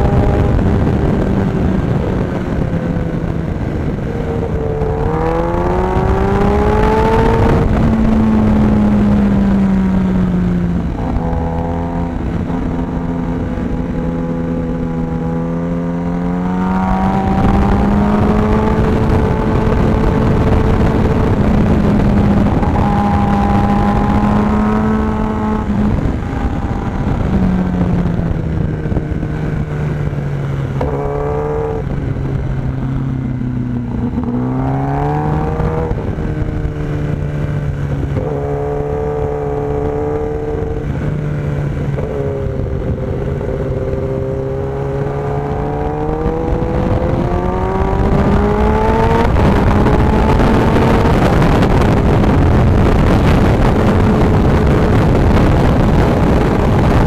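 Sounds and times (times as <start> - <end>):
motorcycle engine at racing speed: 0.0 - 57.0
wind rush on microphone: 0.0 - 57.0.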